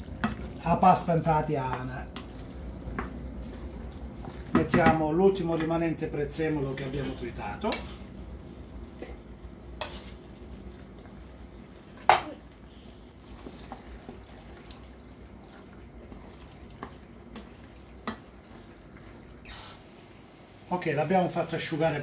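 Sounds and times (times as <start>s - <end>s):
sauce bubbling in pan: 0.0s - 20.8s.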